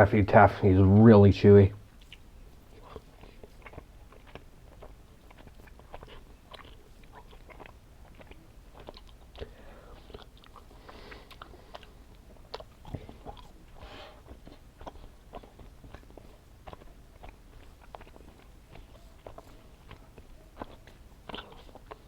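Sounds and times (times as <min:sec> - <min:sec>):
person chewing sticky candy: 0:01.8 - 0:22.0.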